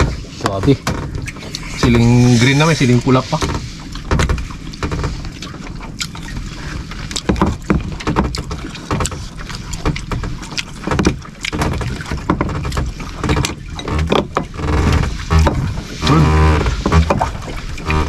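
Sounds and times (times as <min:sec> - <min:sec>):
water against boat: 0:00.0 - 0:18.0.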